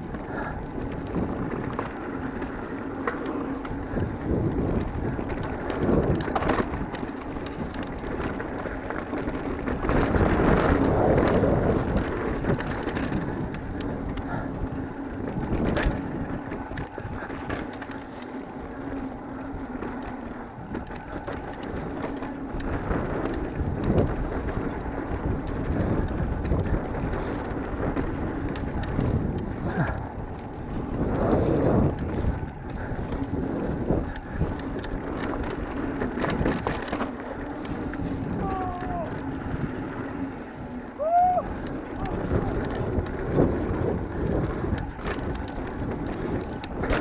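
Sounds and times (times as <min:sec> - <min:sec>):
bike rattling and clicking: 0:00.0 - 0:47.0
bike tyres rolling over dirt: 0:00.0 - 0:47.0
wind rushing across microphone: 0:00.0 - 0:47.0.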